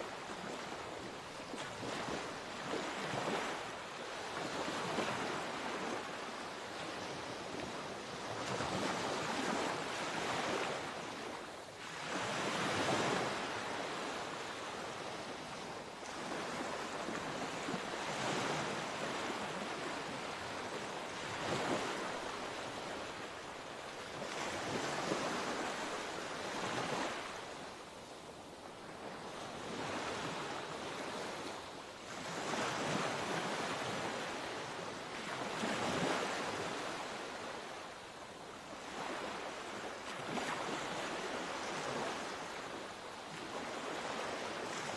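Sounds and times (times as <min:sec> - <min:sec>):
small waves washing onto shore: 0:00.0 - 0:44.9.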